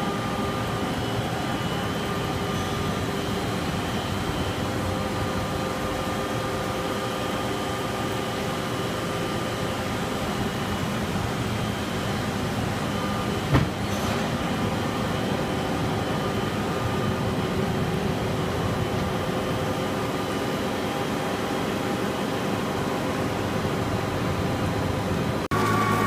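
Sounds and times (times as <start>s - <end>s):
boring mill mechanical drone: 0.0s - 26.0s.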